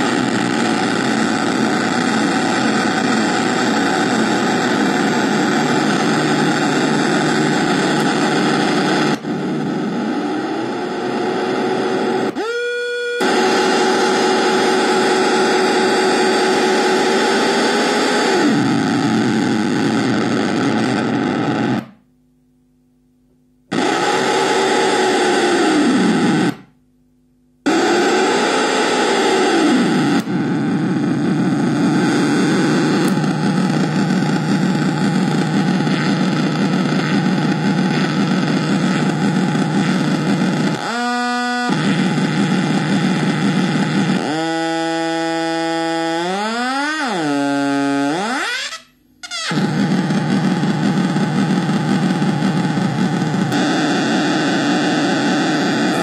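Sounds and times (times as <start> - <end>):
dense distorted noise: 0.0 - 56.0.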